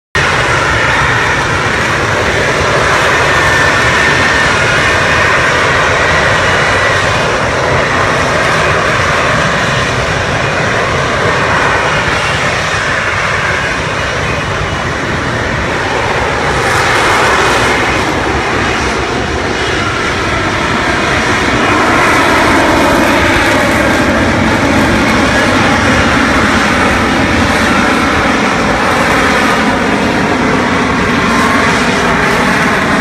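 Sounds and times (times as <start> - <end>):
jet engine roar: 0.2 - 33.0.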